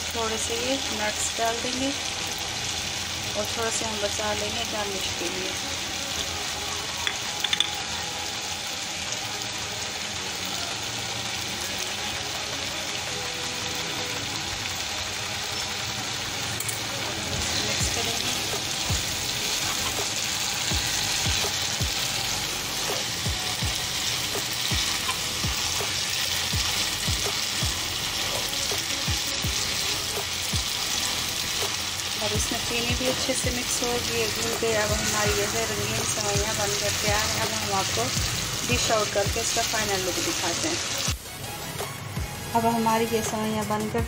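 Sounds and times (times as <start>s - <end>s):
vermicelli sizzling in a pan: 0.0s - 44.0s.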